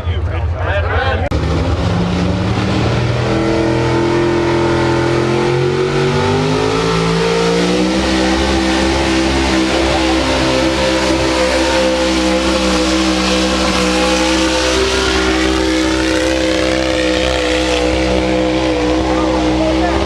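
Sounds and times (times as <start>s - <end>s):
truck engine at high revs: 1.2s - 20.0s.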